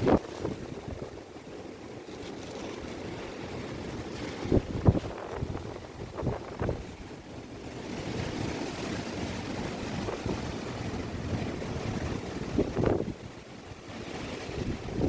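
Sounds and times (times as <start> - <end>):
strong wind buffeting microphone: 0.0 - 1.9, 2.8 - 15.0.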